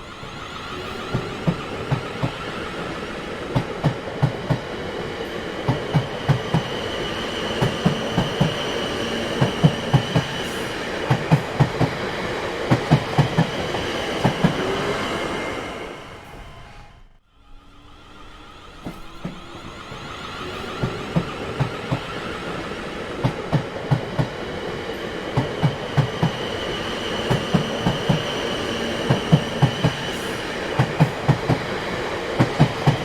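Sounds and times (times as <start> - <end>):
train clacking over rail joints: 0.0 - 16.8, 18.2 - 33.0.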